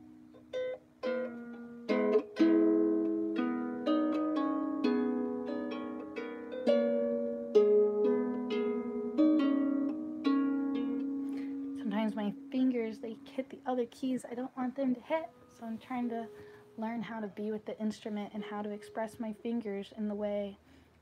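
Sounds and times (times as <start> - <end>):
out-of-tune harp plucked: 0.0 - 19.9.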